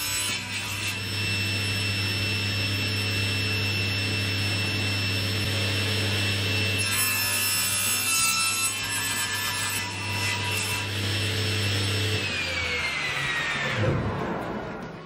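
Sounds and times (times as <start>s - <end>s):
saw cutting wood: 0.0s - 14.1s
table saw running with whine: 0.0s - 15.0s.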